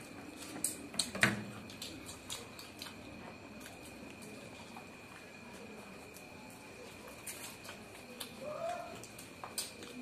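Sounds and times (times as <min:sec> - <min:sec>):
chewing with wet mouth clicks: 0:00.4 - 0:10.0.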